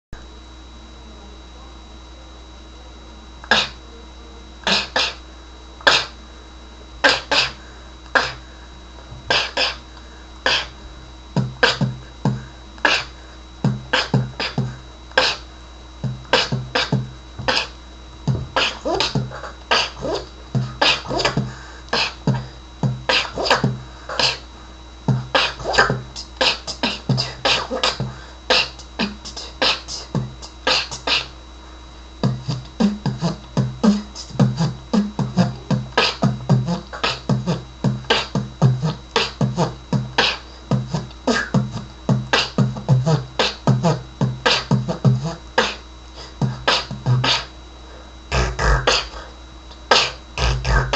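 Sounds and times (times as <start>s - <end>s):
beatboxing: 3.4s - 3.8s, 4.6s - 5.2s, 5.8s - 6.2s, 7.0s - 8.5s, 9.2s - 31.4s, 32.2s - 47.6s, 48.3s - 50.9s.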